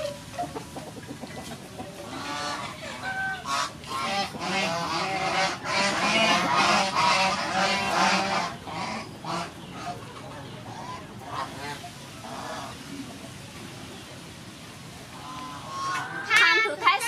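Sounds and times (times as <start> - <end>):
flock of birds calling: 0.0 - 14.1, 15.0 - 17.0.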